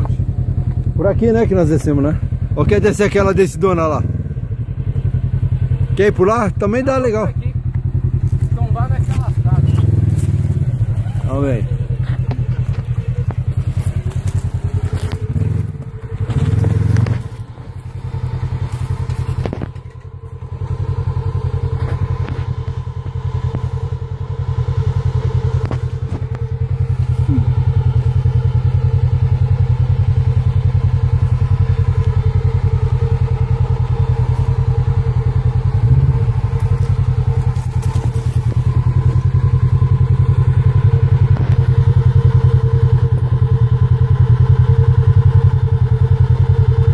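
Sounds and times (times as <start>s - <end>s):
engine running at low revs: 0.0s - 46.9s.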